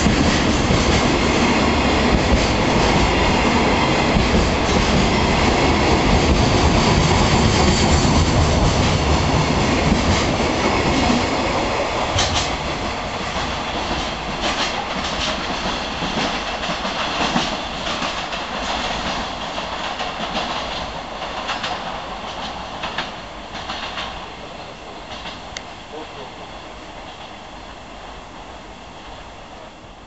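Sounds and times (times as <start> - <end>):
wheels clacking over rail joints: 0.0 - 25.7
train wagons rolling: 0.0 - 27.7.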